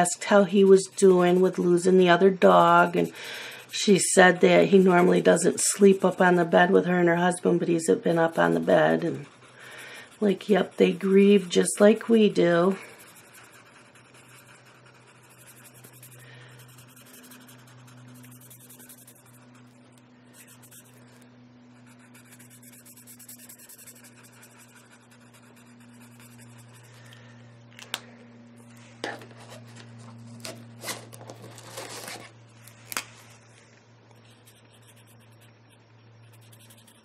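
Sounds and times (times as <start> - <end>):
marker scratching on paper: 0.0 - 26.9, 34.2 - 37.0
low electrical hum: 0.0 - 37.0.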